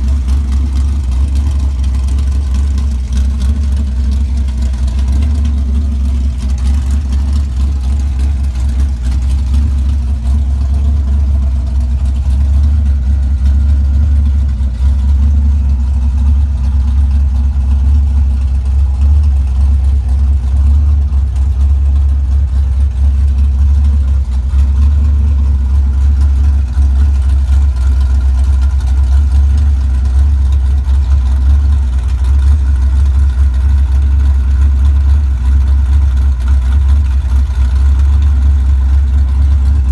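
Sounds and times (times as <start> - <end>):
vee eight engine deep rumble: 0.0 - 39.9.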